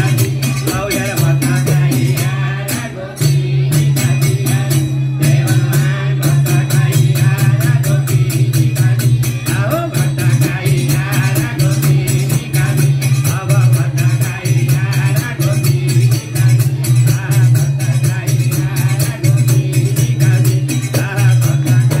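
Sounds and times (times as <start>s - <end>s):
devotional folk song singing: 0.0s - 22.0s
fast percussion beat: 0.0s - 22.0s.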